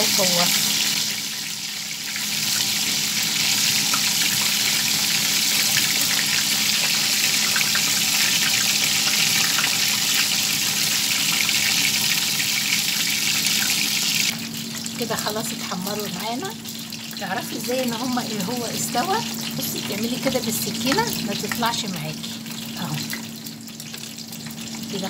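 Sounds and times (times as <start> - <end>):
deep-frying sizzle and crackling: 0.0 - 25.0.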